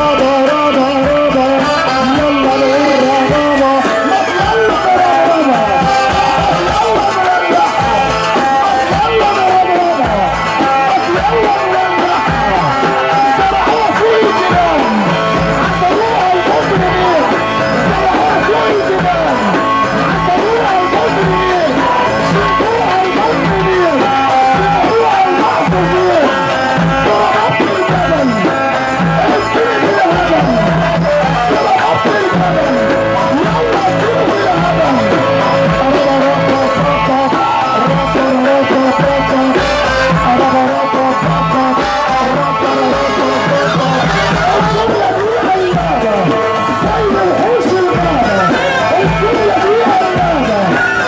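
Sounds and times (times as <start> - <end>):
fast ornamented wedding melody: 0.0 - 51.0
steady drum beat: 0.0 - 51.0.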